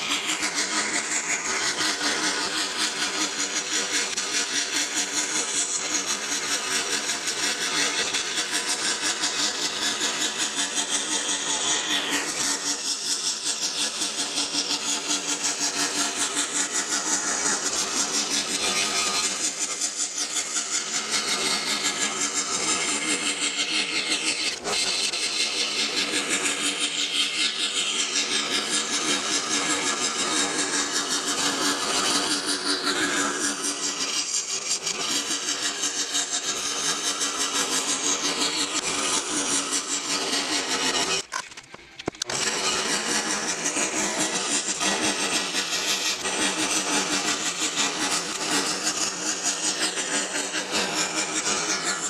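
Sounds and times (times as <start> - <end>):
scroll saw cutting wood: 0.0 - 52.0.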